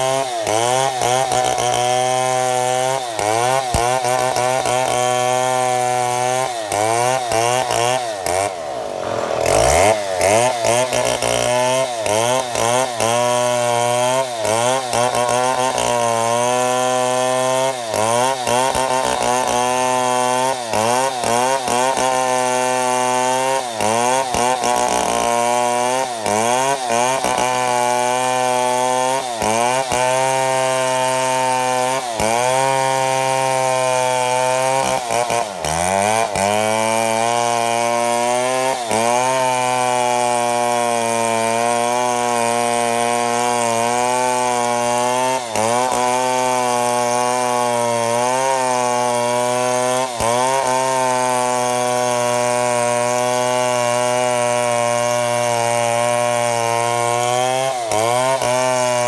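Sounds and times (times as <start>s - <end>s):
chainsaw cutting a log: 0.0s - 59.0s.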